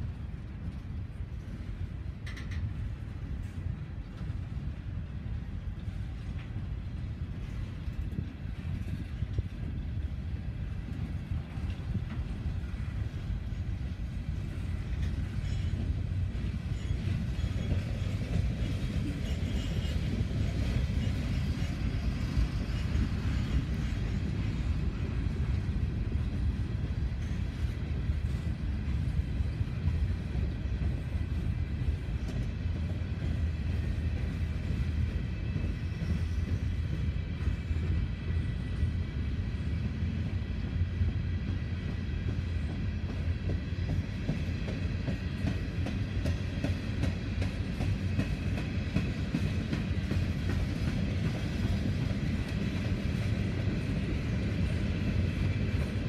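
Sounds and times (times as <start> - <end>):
train cars rolling past: 0.0 - 56.0.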